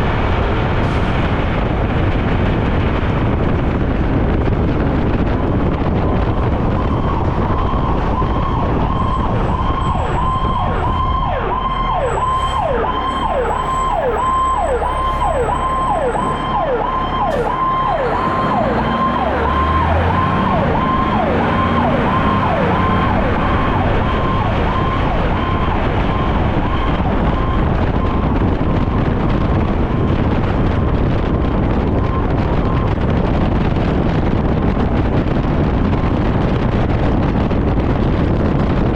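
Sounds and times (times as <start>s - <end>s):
truck engine and road rumble: 0.0s - 38.9s
fire engine siren yelping: 5.1s - 37.6s.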